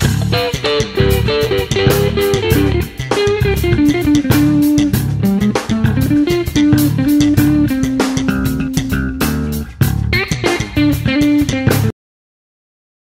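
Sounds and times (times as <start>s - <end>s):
guitar-led instrumental music: 0.0s - 12.0s.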